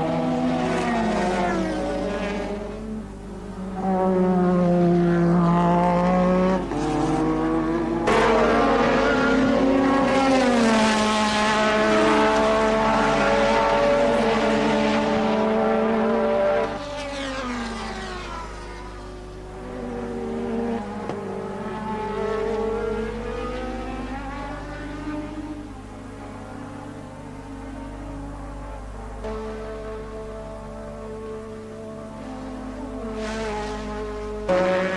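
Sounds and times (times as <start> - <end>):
racing car engines: 0.0 - 34.9.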